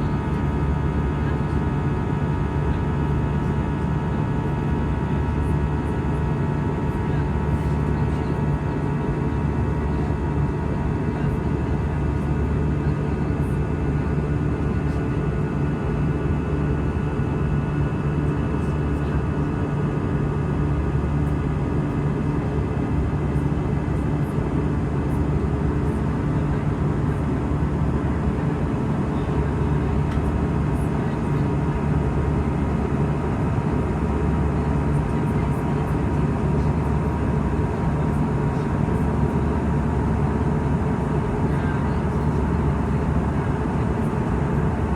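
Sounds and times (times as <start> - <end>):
aircraft cabin engine drone: 0.0 - 44.9.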